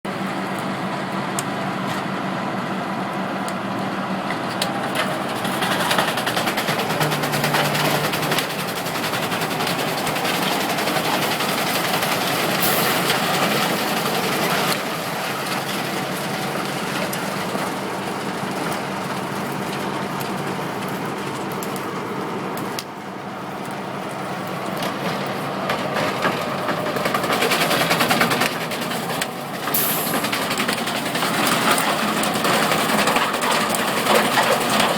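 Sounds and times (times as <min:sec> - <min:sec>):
wood chipper running: 0:00.1 - 0:34.9.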